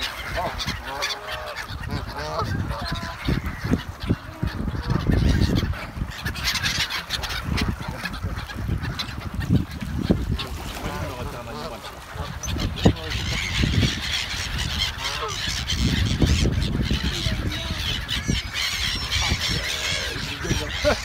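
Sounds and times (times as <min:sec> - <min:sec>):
gulls calling: 0:00.0 - 0:21.0.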